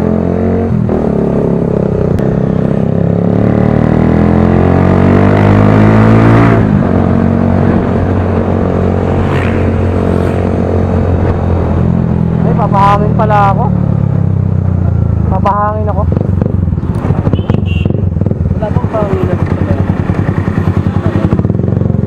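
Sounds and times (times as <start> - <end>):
motorcycle accelerating: 0.0 - 22.0.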